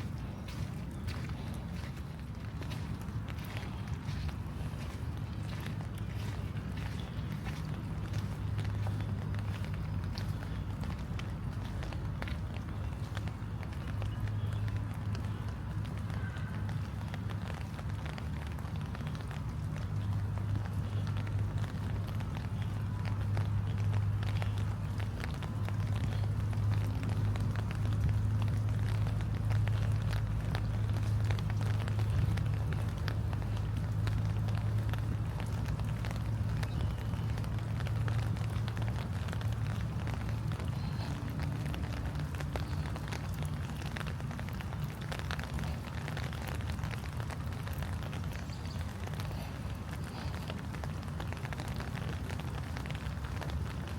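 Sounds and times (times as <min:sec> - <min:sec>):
low steady rumble: 0:00.0 - 0:53.9
rain drops ticking: 0:00.0 - 0:53.9.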